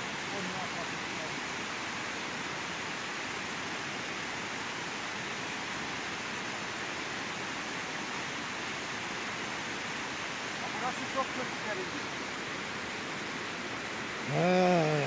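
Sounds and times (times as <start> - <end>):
water rushing down road: 0.0 - 15.0.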